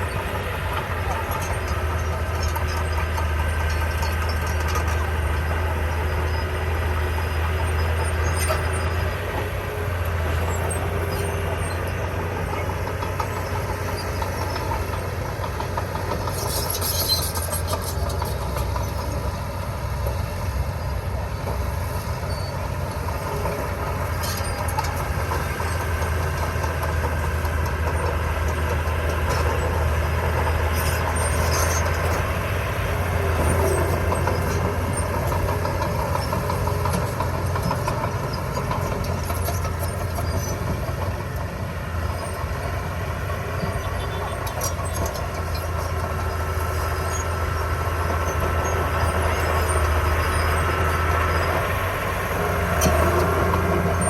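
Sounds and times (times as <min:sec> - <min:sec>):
diesel machinery engine hum: 0:00.0 - 0:54.0.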